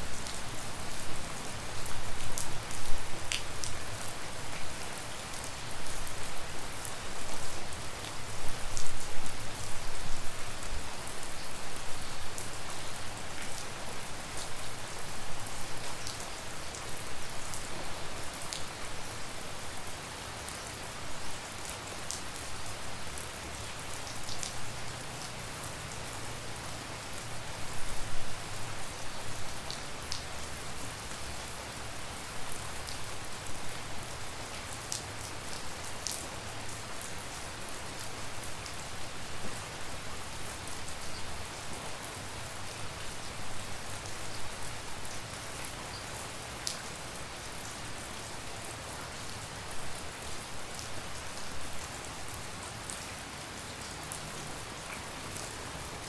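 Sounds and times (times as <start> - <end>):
raindrops ticking on surfaces: 0.1 - 56.0.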